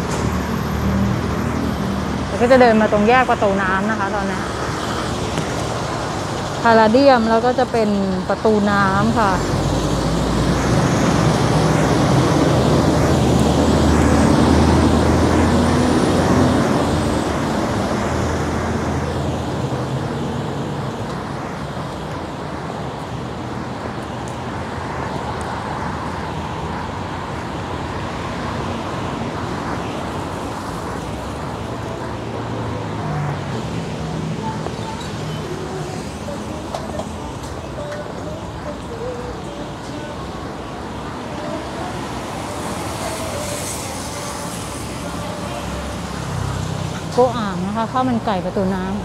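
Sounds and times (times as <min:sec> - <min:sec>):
large vehicle engine: 0:00.0 - 0:49.0
passing cars: 0:00.0 - 0:49.0.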